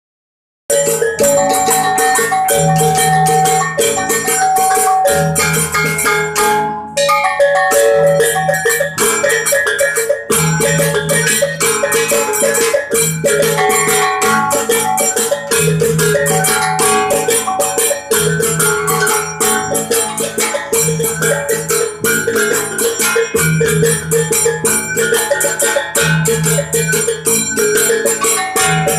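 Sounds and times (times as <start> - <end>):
gong-chime ensemble playing: 0.7 - 28.9.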